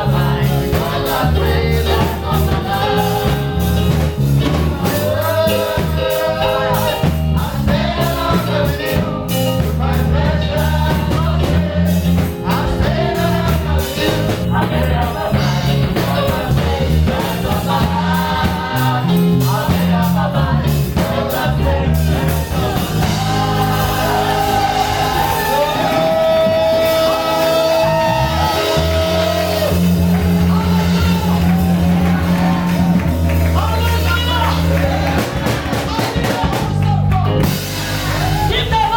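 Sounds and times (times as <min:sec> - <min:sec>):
band with heavy bass line: 0:00.0 - 0:38.9
voices singing gospel: 0:00.0 - 0:38.9.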